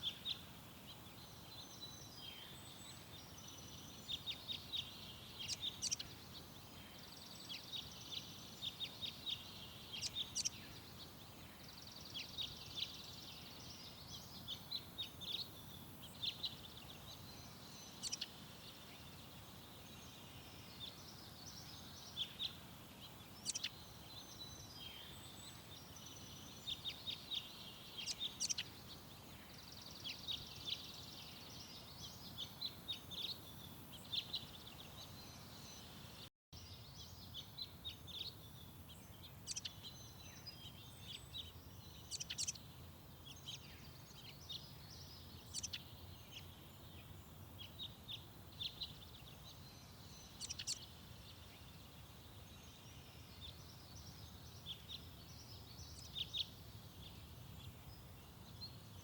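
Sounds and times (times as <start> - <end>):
faint steady background noise: 0.0 - 59.0
small birds chirping: 0.0 - 59.0.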